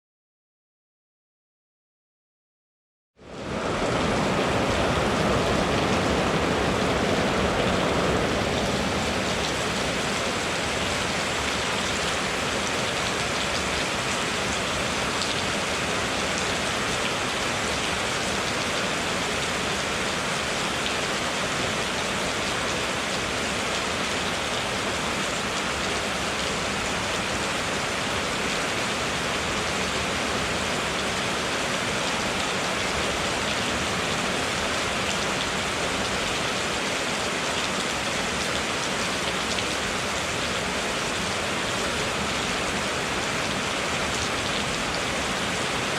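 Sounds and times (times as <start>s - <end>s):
steady rain falling: 3.2s - 45.9s.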